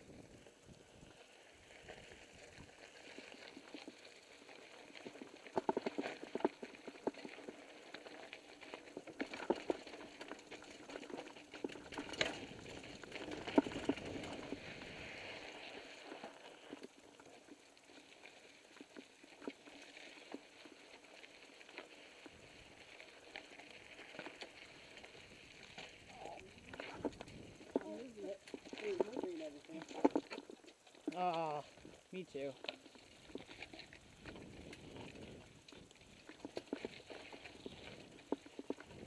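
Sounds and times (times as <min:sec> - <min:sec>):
bike rattling over bumps: 0:00.0 - 0:31.1, 0:31.7 - 0:39.0
bike tyres crunching over gravel: 0:00.0 - 0:39.0.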